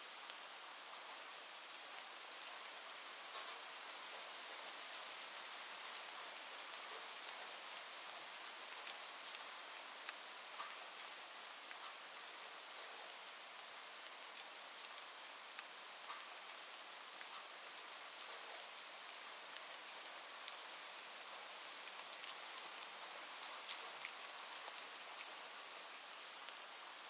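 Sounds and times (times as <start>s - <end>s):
steady rain hissing: 0.0s - 27.0s.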